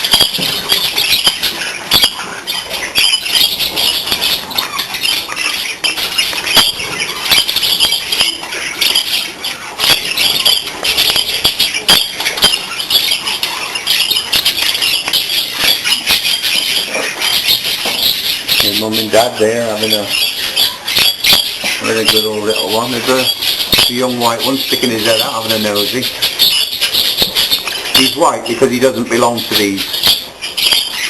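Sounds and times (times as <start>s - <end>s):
budgerigars chattering and squawking: 0.0s - 31.0s.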